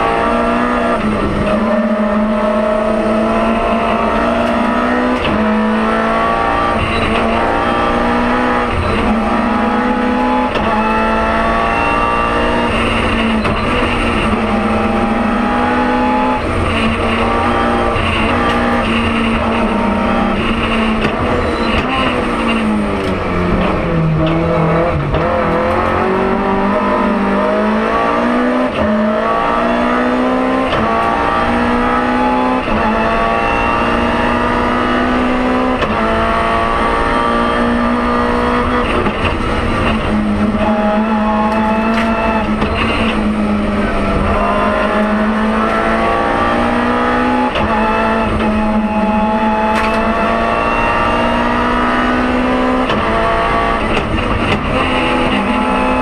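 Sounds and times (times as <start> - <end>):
rally car engine revving hard: 0.0 - 56.0.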